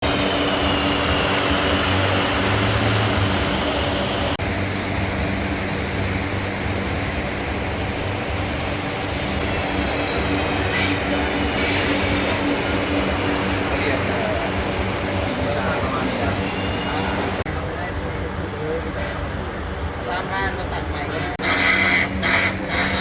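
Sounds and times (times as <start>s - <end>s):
dense machinery din: 0.0s - 19.4s
low machinery hum: 0.0s - 21.4s.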